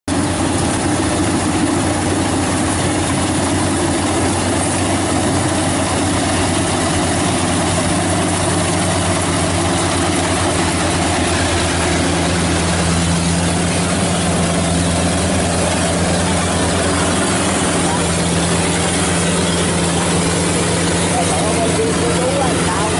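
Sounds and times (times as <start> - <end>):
combine harvester running: 0.1 - 22.9
second steady hum: 0.1 - 22.9.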